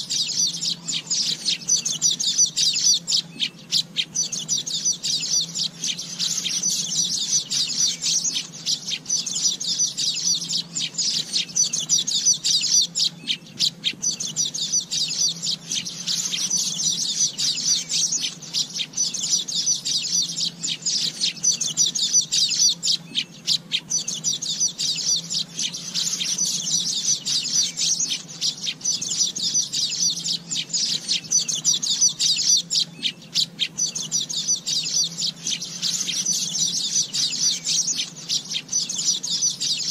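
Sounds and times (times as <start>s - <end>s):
bird song high-pitched chatter: 0.0s - 39.9s
faint low hum: 0.0s - 39.9s.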